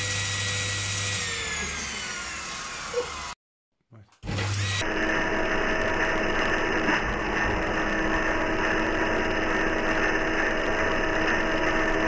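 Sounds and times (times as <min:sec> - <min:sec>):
circular saw running: 0:00.0 - 0:03.4, 0:04.3 - 0:12.0.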